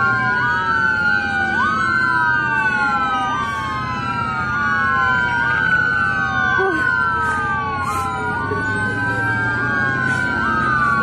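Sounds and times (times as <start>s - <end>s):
emergency sirens wailing: 0.0s - 11.0s.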